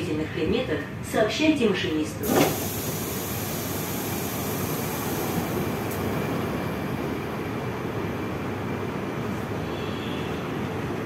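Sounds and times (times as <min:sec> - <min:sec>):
metro car rumble and hum: 0:00.0 - 0:11.0.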